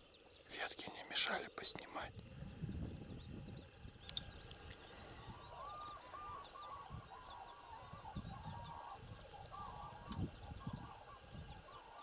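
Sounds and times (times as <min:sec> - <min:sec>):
chorus of bird calls: 0:00.0 - 0:12.0
small birds chirping: 0:00.0 - 0:12.0.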